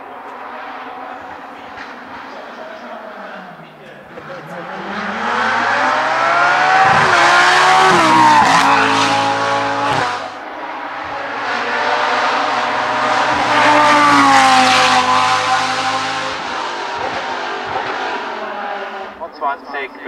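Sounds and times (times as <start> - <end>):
race car engine accelerating: 0.3 - 19.3.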